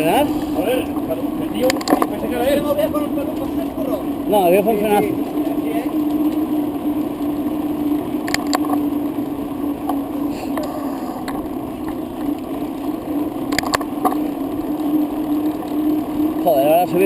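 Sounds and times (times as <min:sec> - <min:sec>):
bicycle rolling downhill: 0:00.0 - 0:17.0
bike clicks and rattles: 0:00.0 - 0:17.0.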